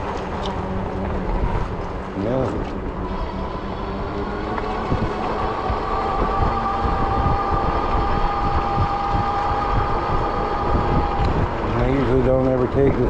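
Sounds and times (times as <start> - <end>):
electric bike riding: 0.0 - 13.0
two-note motor whine: 0.0 - 13.0
wind buffeting microphone: 0.0 - 13.0.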